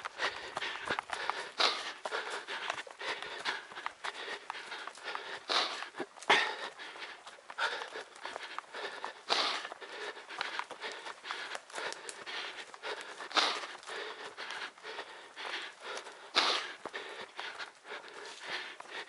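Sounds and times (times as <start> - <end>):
heavy panting breath: 0.0 - 19.0
running footfalls: 0.0 - 19.0.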